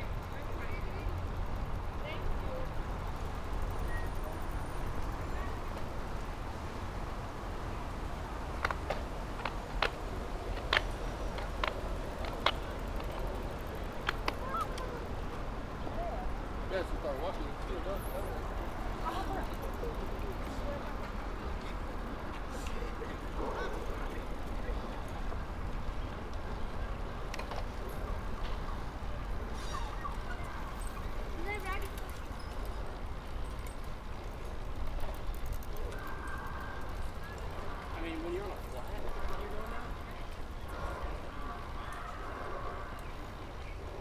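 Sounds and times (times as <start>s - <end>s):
bicycle road rumble: 0.0s - 44.0s
wind: 0.0s - 44.0s.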